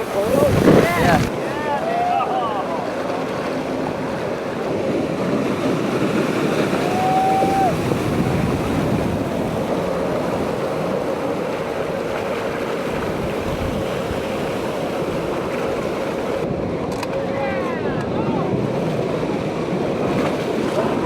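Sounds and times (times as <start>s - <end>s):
ocean surf rushing: 0.0s - 21.0s
wind buffeting microphone: 0.0s - 21.0s.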